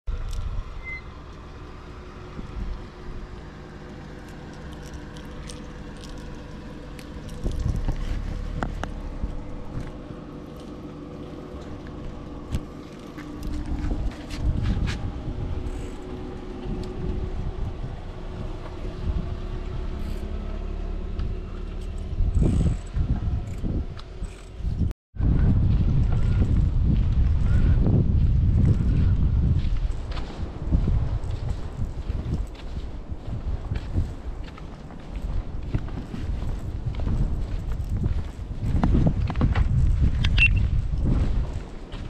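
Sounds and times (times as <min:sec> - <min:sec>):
vehicle engine and road rumble: 0:00.0 - 0:42.0
low buffeting: 0:00.1 - 0:42.0.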